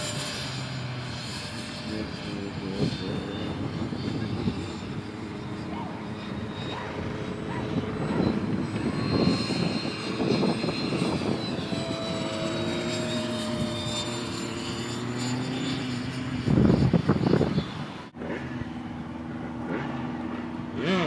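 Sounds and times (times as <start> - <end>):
model plane electric motor whine: 0.0 - 21.0.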